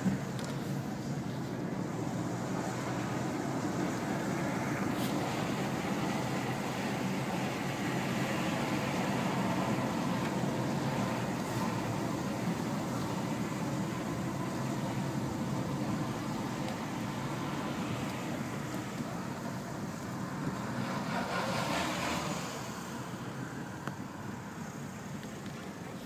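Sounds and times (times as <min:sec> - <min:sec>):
car tyre and engine rumble: 0:00.0 - 0:26.0.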